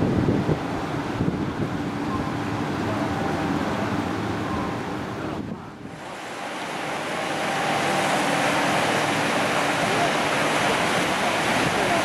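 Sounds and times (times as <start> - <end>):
low steady ship hum: 0.0 - 12.0
water rushing along ship hull: 0.0 - 12.0
wind buffeting microphone: 0.0 - 12.0.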